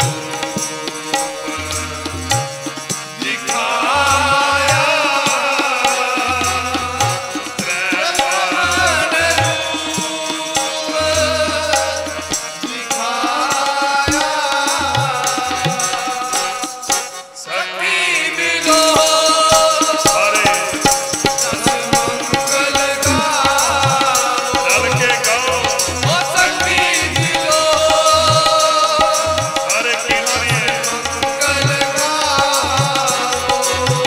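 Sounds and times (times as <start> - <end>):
harmoniums: 0.0 - 34.0
men singing: 0.0 - 34.0
tabla rhythm: 0.0 - 34.0.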